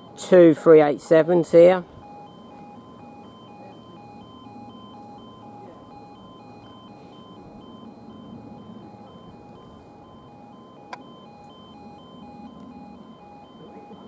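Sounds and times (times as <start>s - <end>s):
two-tone alarm beeping: 0.0s - 14.0s.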